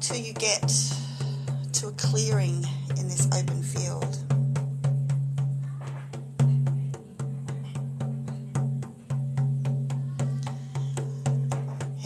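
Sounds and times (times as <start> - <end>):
frame drum steady beat: 0.0 - 12.0.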